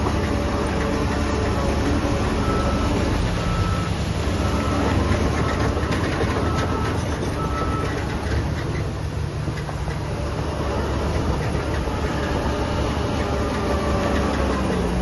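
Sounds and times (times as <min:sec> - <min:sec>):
diesel earthmoving machinery running: 0:00.0 - 0:15.0.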